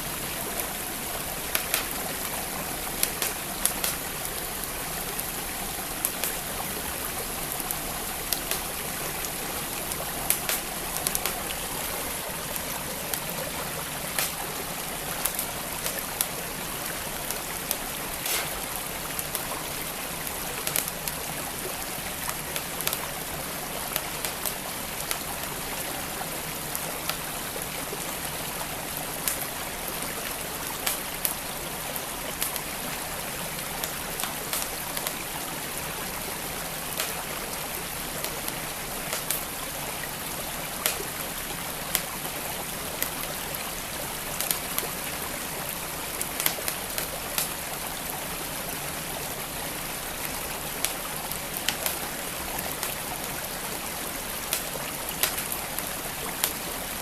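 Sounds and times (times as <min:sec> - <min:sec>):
flowing stream: 0:00.0 - 0:57.0
wood fire crackling: 0:00.1 - 0:28.0, 0:28.6 - 0:57.0.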